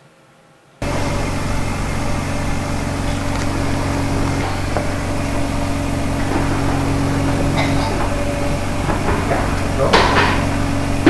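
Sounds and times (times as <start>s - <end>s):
low drone: 0.8s - 11.0s
motor humming: 0.8s - 11.0s.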